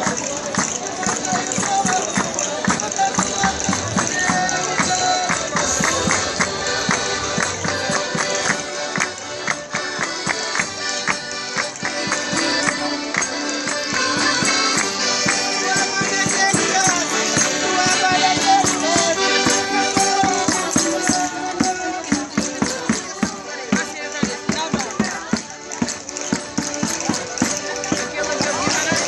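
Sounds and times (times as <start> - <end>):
accordions holding chords: 0.0 - 29.0
rattle percussion: 0.0 - 29.0
strummed string instruments: 0.0 - 29.0.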